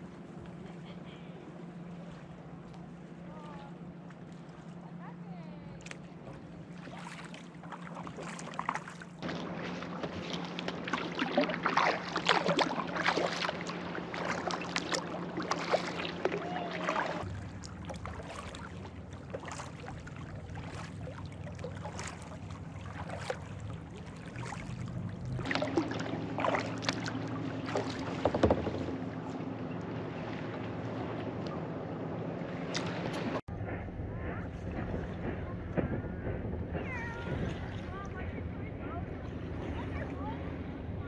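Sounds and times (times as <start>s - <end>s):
low motorboat engine hum: 0.0s - 41.0s
paddle strokes splashing in water: 5.8s - 40.8s.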